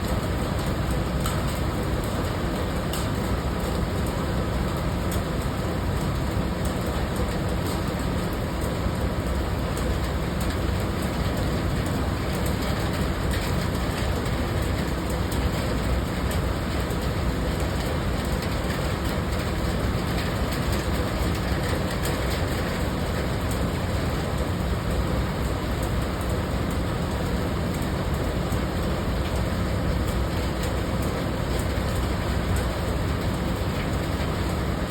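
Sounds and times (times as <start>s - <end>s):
raindrops ticking: 0.0s - 34.9s
steady rain falling: 0.0s - 34.9s.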